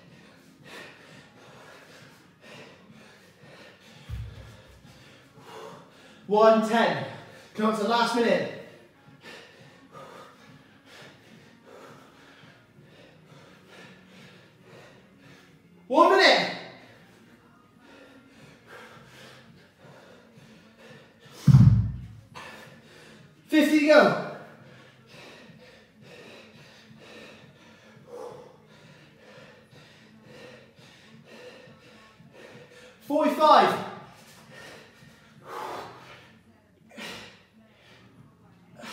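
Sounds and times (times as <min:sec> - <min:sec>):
man breathing hard: 0:00.0 - 0:07.6, 0:08.5 - 0:38.9.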